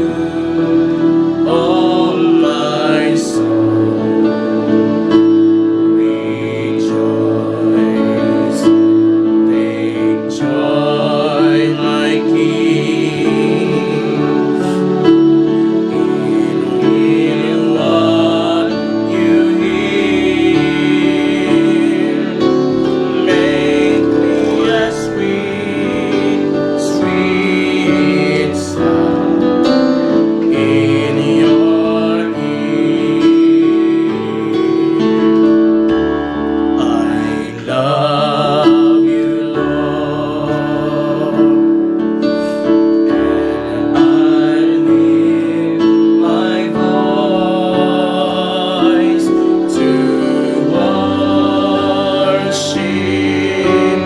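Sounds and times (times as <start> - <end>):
person singing: 0.0 - 54.0
piano and keyboard: 0.0 - 54.0.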